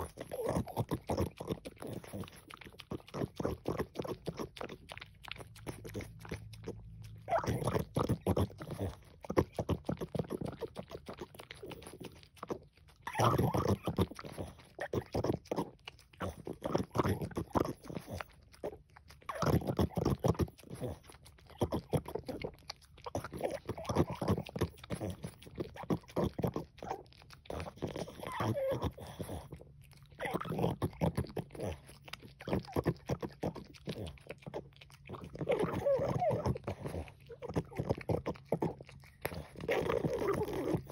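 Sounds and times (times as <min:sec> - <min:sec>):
dog licking: 0:00.0 - 0:40.9.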